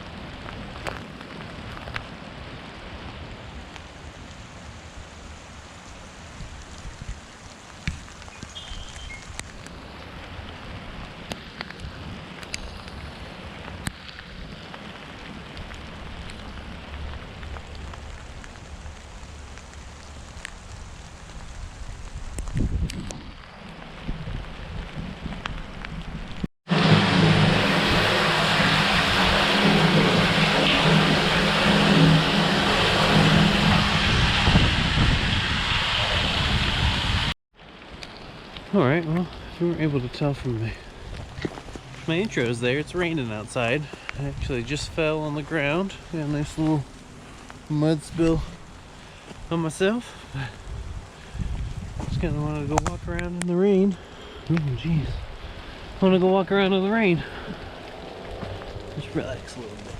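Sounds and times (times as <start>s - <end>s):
sharp ticks of raindrops: 0.0s - 34.4s, 37.6s - 59.9s
steady rain falling: 0.0s - 59.9s.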